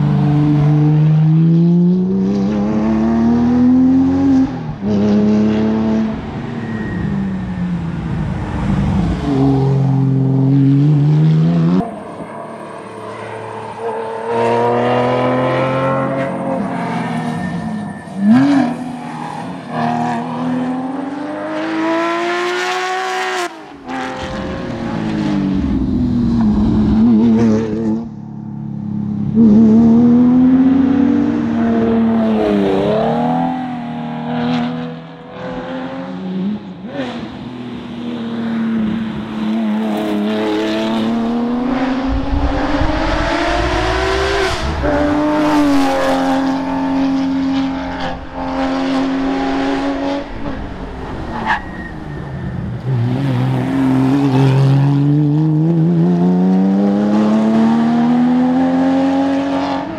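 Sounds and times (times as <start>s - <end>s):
racing car engine accelerating: 0.0s - 37.5s, 38.4s - 59.9s.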